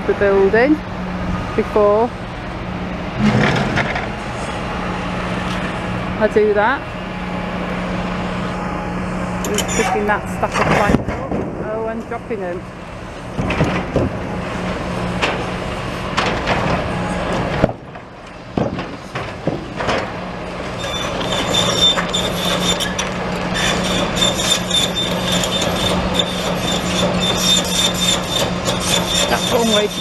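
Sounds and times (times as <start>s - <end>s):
construction machine engine running: 0.0s - 30.0s.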